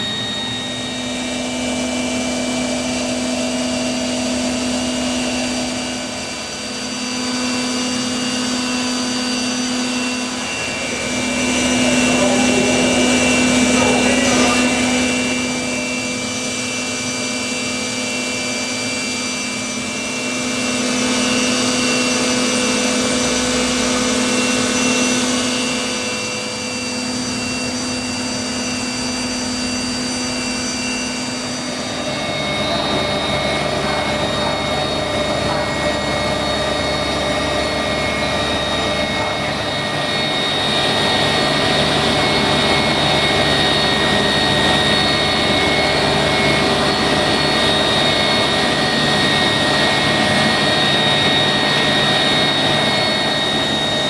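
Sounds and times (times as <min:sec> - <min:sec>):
milling machine cutting hum: 0:00.0 - 0:54.0.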